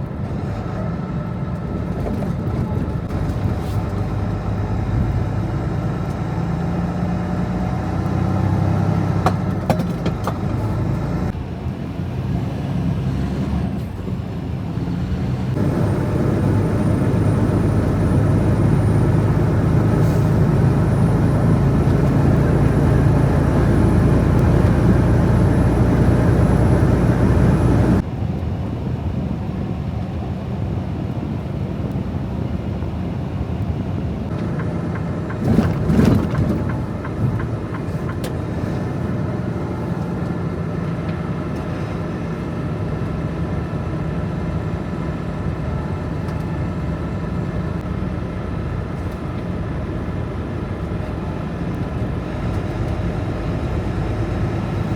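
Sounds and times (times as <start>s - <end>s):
truck engine and road noise: 0.0s - 54.9s.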